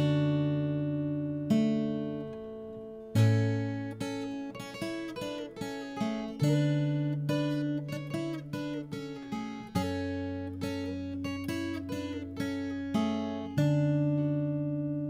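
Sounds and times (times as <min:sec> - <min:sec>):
acoustic guitar picking melody: 0:00.0 - 0:15.0.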